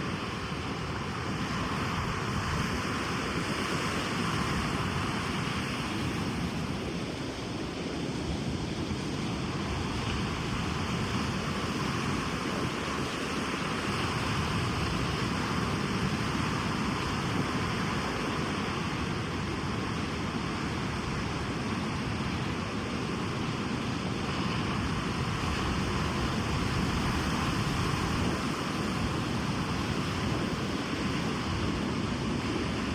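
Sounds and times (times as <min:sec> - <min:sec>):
ocean waves washing on beach: 0:00.0 - 0:32.9.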